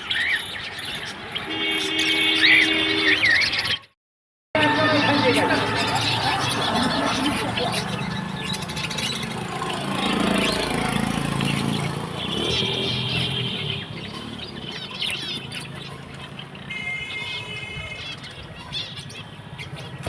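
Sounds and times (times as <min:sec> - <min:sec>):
cage birds chirping: 0:00.0 - 0:04.0, 0:04.6 - 0:20.0.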